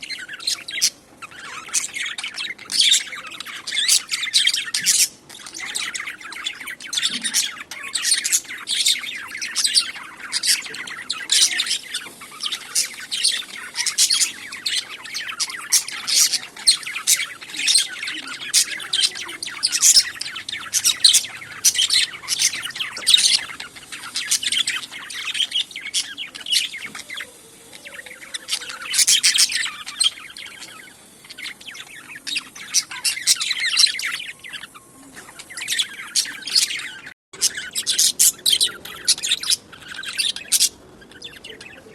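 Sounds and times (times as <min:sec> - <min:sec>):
budgerigars chirping: 0:00.0 - 0:41.9.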